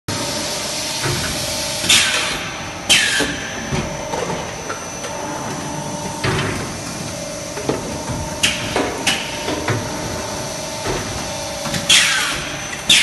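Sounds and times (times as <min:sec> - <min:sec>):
machine humming: 0:00.1 - 0:13.0.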